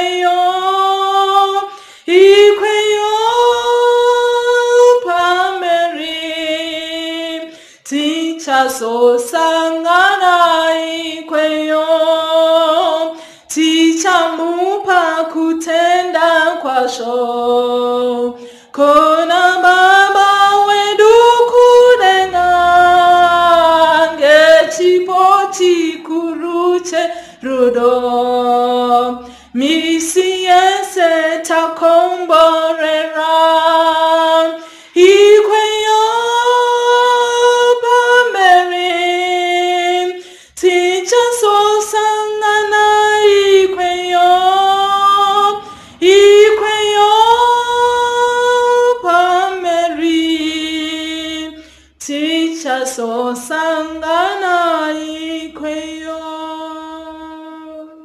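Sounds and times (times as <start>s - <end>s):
woman singing a hymn: 0.0s - 58.0s.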